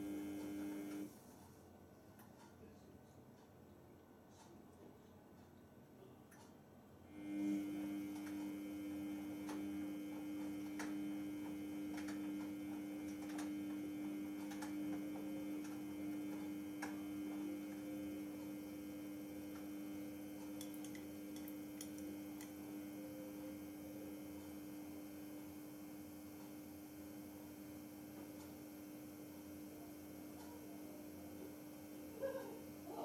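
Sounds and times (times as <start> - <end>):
washing machine motor hum: 0.0 - 1.2, 7.1 - 33.0.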